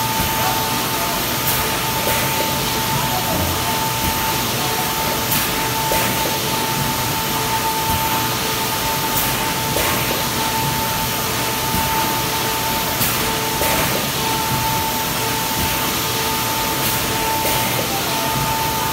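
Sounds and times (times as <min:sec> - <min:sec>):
high machine whine: 0:00.0 - 0:18.9
machinery hiss: 0:00.0 - 0:18.9.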